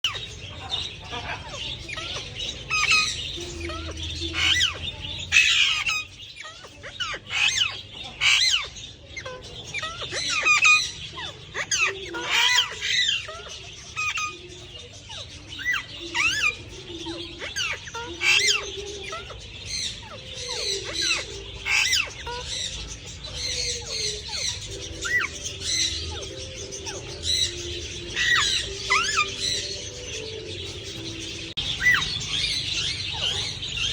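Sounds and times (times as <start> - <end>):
parrots chirping and squawking: 0.0 - 33.9.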